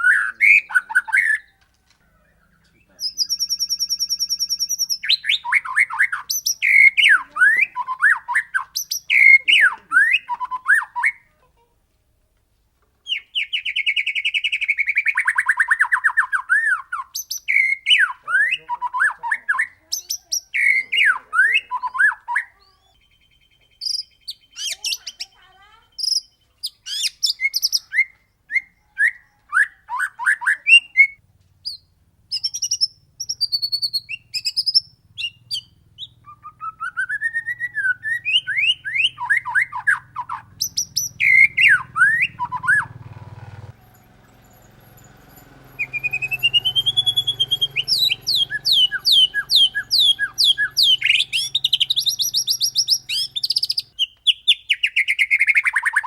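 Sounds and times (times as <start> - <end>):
bird singing whistled notes and trills: 0.0 - 1.6, 2.2 - 11.2, 13.0 - 43.0, 44.4 - 56.0.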